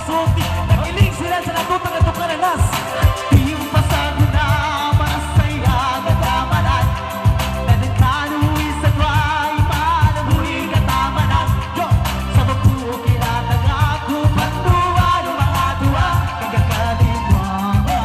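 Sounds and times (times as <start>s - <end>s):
electronic keyboard with steady beat: 0.0s - 18.0s
person singing with vibrato: 0.0s - 18.0s.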